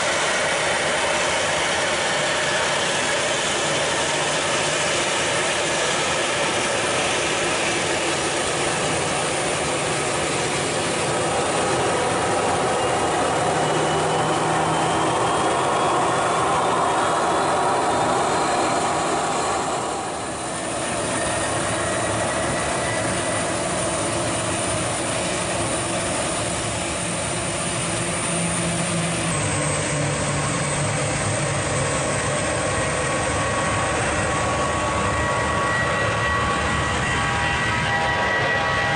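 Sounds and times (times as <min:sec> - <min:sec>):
jet engines rushing and whining: 0:00.0 - 0:38.9.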